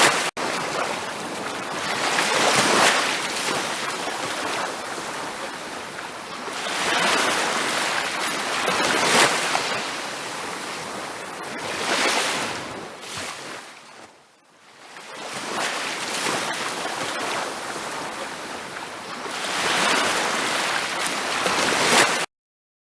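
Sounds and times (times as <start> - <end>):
ocean surf on a beach: 0.0 - 22.3.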